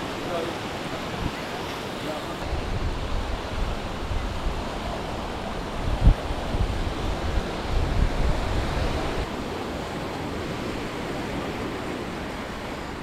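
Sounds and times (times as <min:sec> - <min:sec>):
waves washing onto sandy beach: 0:00.0 - 0:13.0
wind buffeting microphone: 0:00.0 - 0:13.0.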